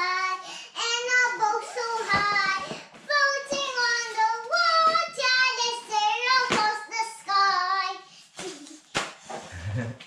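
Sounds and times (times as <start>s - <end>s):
girl singing wordlessly: 0.0s - 8.9s.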